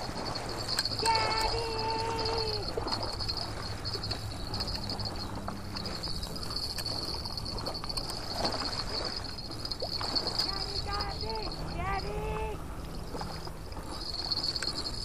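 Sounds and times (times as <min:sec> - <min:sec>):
insects trilling: 0:00.0 - 0:15.0
low background rumble: 0:00.0 - 0:15.0.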